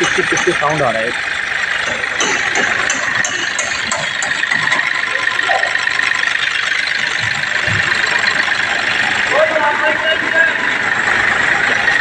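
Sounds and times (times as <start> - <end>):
diesel car engine idling: 0.0 - 12.0
high-pitched turbo whine: 0.0 - 12.0.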